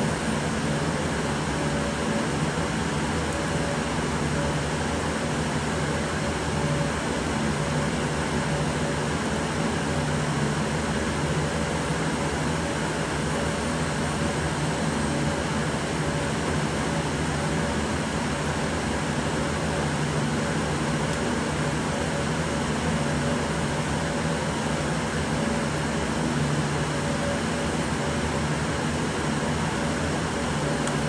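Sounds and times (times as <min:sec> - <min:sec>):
cooling fans whirring: 0:00.0 - 0:31.0.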